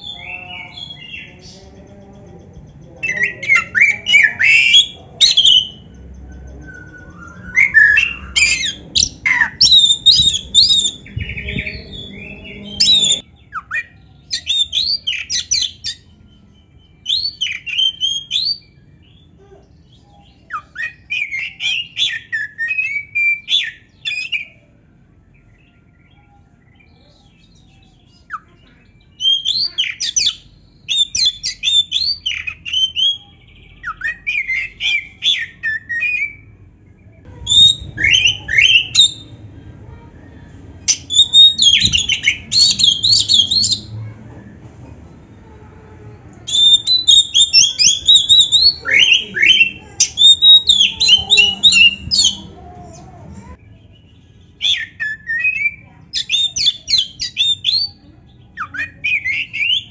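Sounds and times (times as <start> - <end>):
magpie-robin singing: 0.0 - 24.7, 25.4 - 45.4, 46.1 - 59.9.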